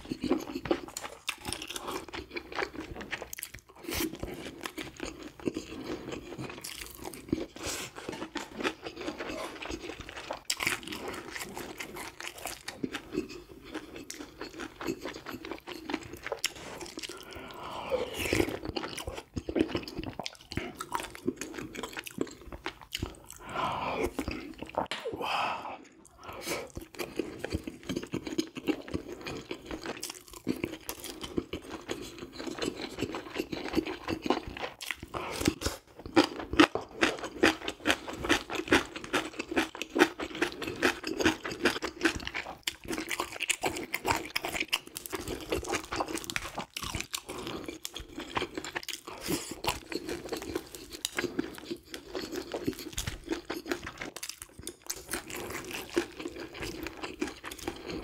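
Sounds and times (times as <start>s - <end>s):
chewing food: 0.0s - 25.1s, 25.8s - 58.0s.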